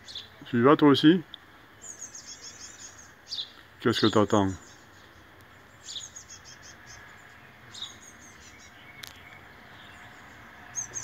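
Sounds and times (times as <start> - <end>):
birds chirping high: 0.0 - 11.0.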